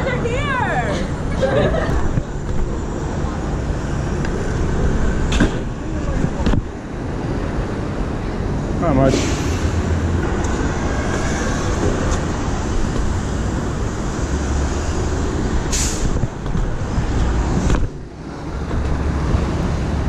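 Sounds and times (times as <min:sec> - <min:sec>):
urban traffic rumble: 0:00.0 - 0:20.0.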